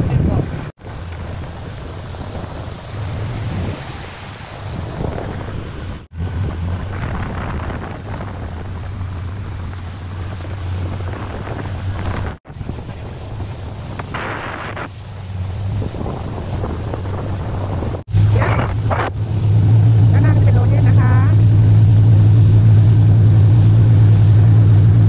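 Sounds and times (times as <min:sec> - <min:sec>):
boat motor running: 0:00.0 - 0:25.0
water rushing past hull: 0:00.0 - 0:25.0
wind buffeting microphone: 0:00.0 - 0:25.0.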